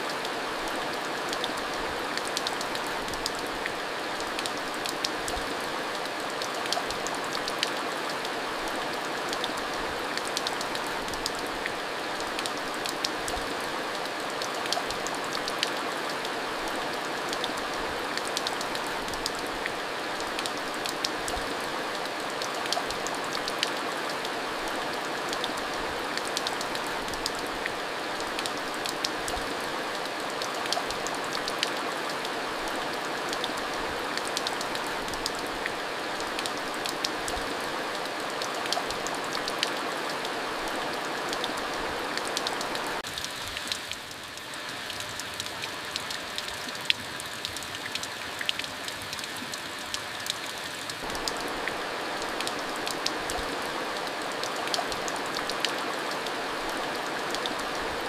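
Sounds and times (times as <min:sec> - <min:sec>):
raindrops ticking on a surface: 0:00.0 - 0:58.0
steady rain hiss: 0:00.0 - 0:58.0.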